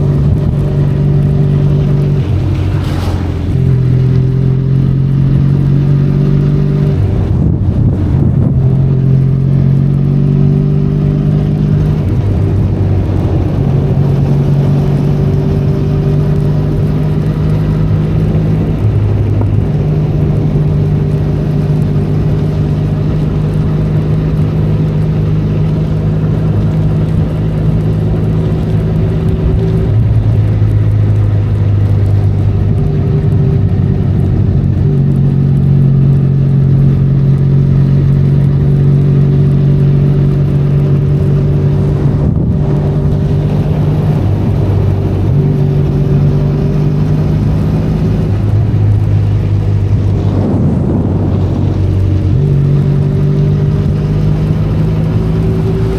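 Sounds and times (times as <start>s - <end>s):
motorcycle engine running: 0.0s - 55.9s
rain and wind hiss: 0.0s - 55.9s.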